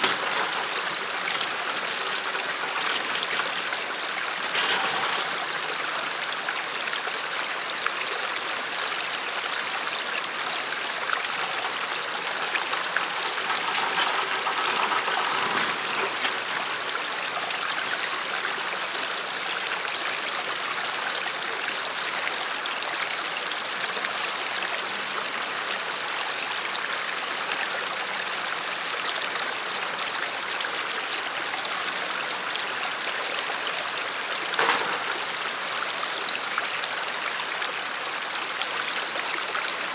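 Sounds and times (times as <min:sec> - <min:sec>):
creek trickling over rocks: 0:00.0 - 0:39.9.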